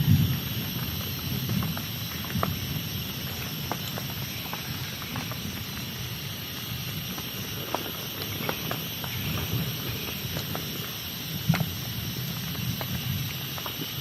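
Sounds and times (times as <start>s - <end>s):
raindrops ticking on a surface: 0.0s - 14.0s
steady rain hiss: 0.0s - 14.0s.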